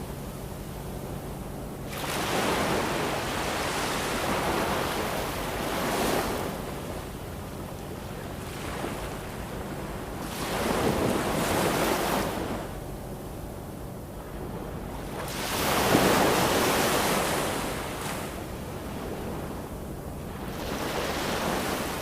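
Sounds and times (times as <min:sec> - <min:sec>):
low rumble of sea: 0:00.0 - 0:22.0
waves breaking on shore: 0:01.8 - 0:12.7, 0:14.2 - 0:22.0.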